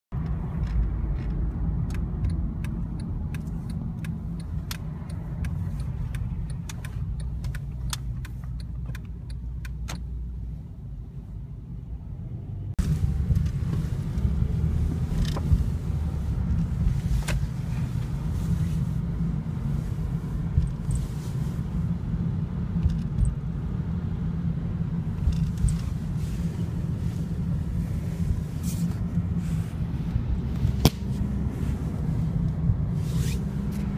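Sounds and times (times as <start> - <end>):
car road rumble from cabin: 0.1 - 33.9.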